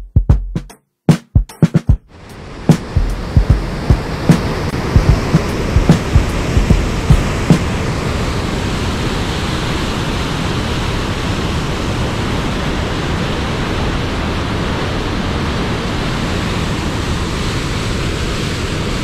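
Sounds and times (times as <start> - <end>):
waterfall rushing: 2.1 - 17.6.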